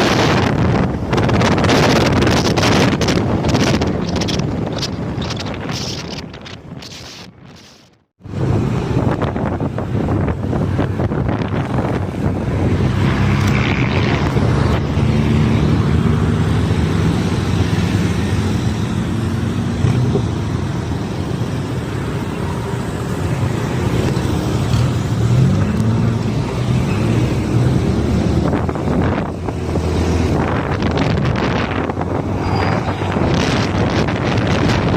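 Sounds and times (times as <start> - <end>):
wind rushing on microphone: 0.0 - 34.9.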